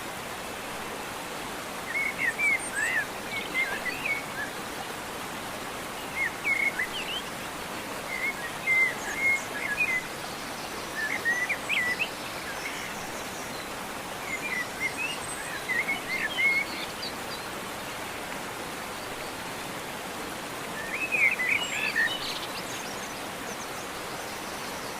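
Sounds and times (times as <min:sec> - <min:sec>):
outdoor background hiss: 0:00.0 - 0:24.9.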